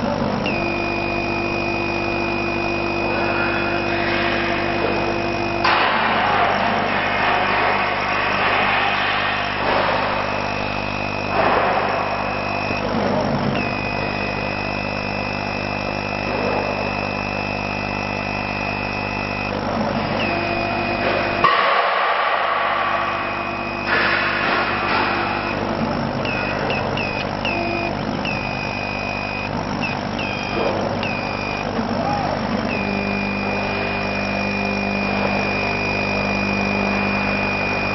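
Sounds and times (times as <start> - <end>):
cutting head motor whine: 0.0 - 37.9
laser cutter mechanical hum: 0.0 - 37.9.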